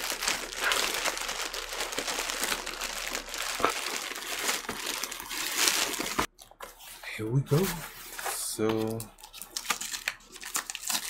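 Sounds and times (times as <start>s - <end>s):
packaging crinkling and rustling: 0.0s - 6.9s, 7.6s - 11.0s.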